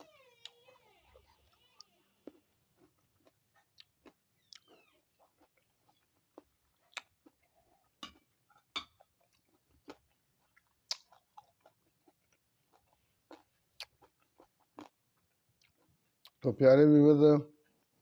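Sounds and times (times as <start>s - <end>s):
person chewing fruit: 0.0s - 16.4s.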